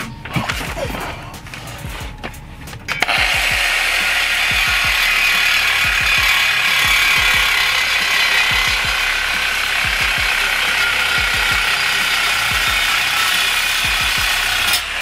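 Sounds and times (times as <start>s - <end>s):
reciprocating saw cutting metal pipe: 2.7s - 15.0s.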